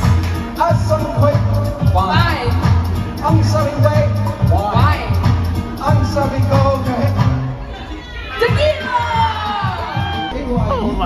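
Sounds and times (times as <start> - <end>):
karaoke backing track: 0.0 - 11.0.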